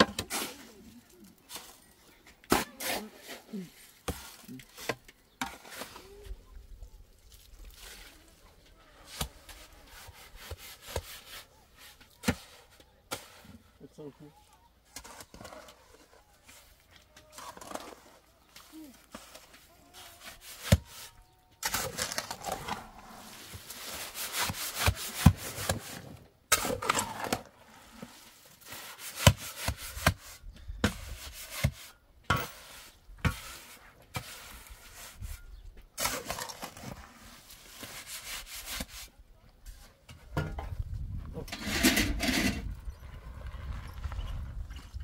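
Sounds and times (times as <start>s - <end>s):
hand tools scraping rough surface: 0.0s - 6.4s, 7.6s - 14.1s, 14.8s - 43.0s.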